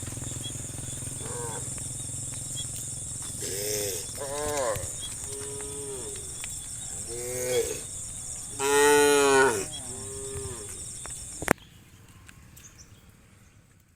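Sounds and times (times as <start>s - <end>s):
cows mooing: 0.0s - 11.5s
steady high-pitched hiss: 0.0s - 13.9s.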